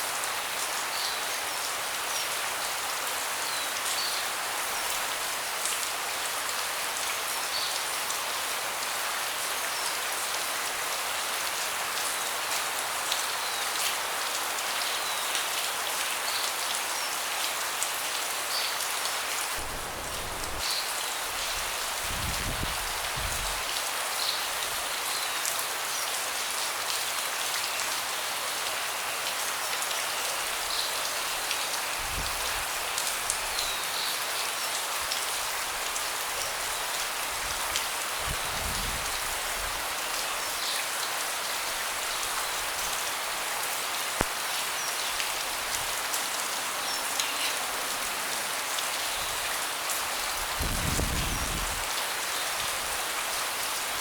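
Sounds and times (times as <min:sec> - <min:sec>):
rain pattering on a deck: 0:00.0 - 0:54.0.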